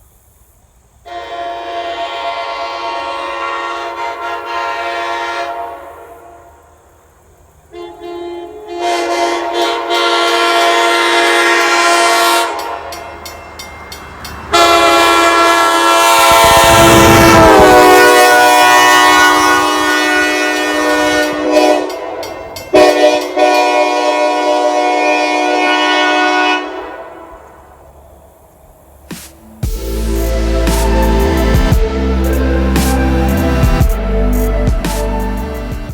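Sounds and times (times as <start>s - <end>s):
train passing rush: 0.0s - 35.9s
locomotive horn chord blasts: 1.1s - 6.7s, 7.7s - 13.3s, 14.5s - 27.6s, 29.6s - 35.9s.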